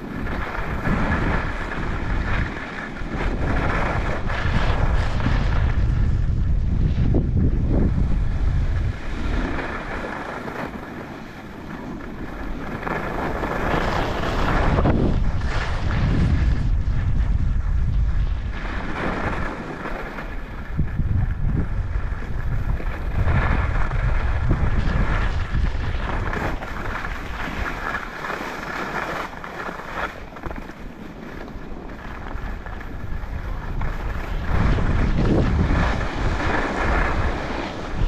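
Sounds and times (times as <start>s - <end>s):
ski edges scraping snow: 0.0s - 38.0s
wind buffeting microphone: 0.0s - 38.0s.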